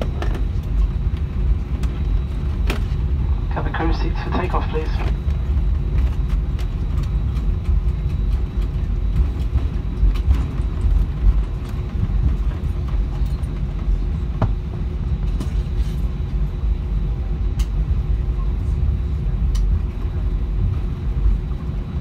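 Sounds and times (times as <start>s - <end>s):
jet engines idling: 0.0s - 22.0s
faint steady hum: 0.2s - 22.0s.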